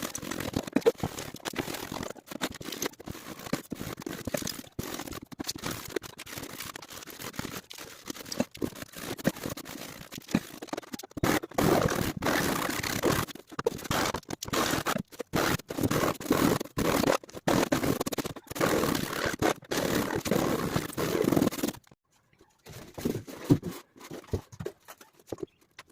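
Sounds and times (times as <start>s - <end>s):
scratching and scraping strokes: 0.0s - 25.6s.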